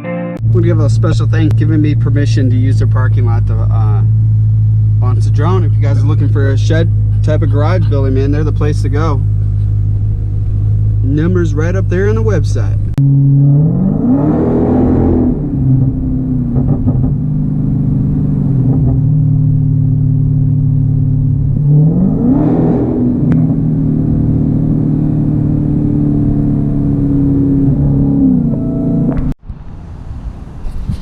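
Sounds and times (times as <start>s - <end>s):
car engine revving while driving: 0.4s - 29.4s.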